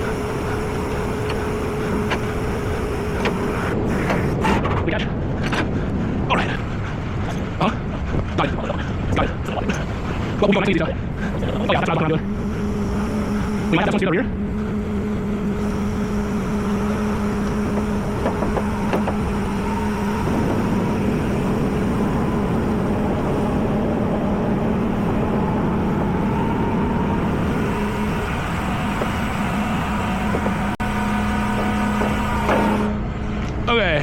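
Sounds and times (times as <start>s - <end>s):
truck engine humming: 0.0s - 34.0s.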